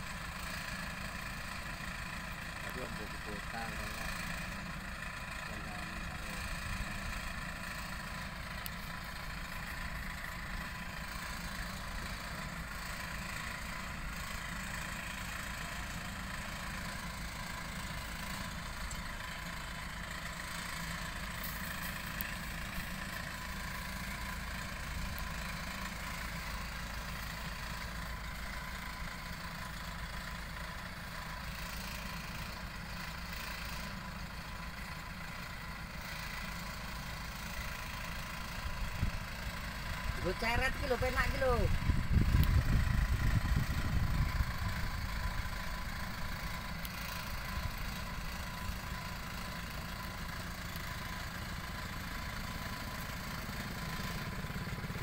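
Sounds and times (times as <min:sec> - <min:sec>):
harvester engines idling: 0:00.0 - 0:55.0.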